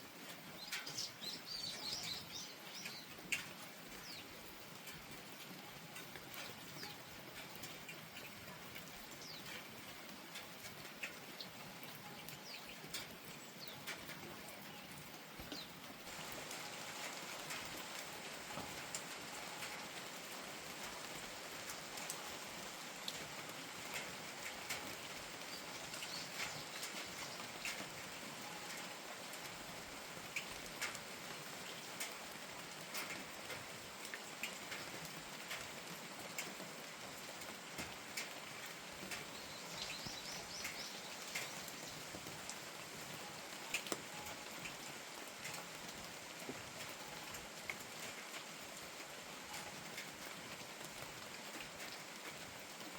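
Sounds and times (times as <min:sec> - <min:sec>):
raindrops ticking: 0:00.0 - 0:52.9
steady rain hiss: 0:00.0 - 0:52.9.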